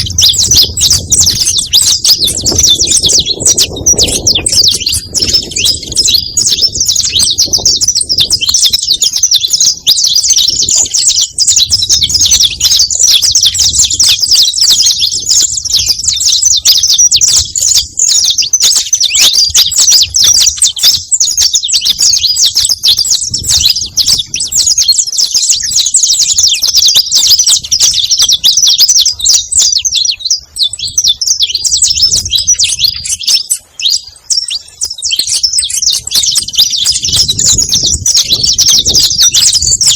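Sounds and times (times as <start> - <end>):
finch singing high chirps: 0.0 - 39.9.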